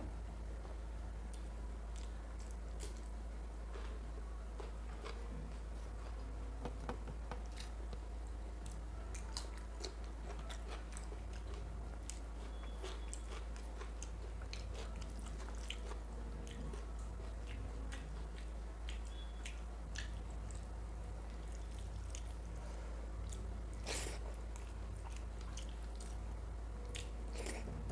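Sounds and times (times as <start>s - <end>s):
steady low hum: 0.0s - 27.9s
chewing and mouth smacks: 1.3s - 4.0s, 7.3s - 27.8s.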